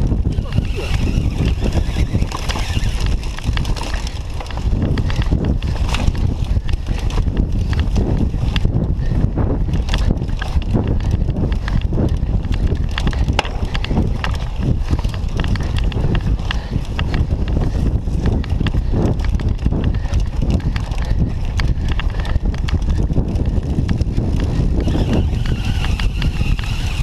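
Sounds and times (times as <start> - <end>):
bicycle rattling over rough ground: 0.0 - 27.0.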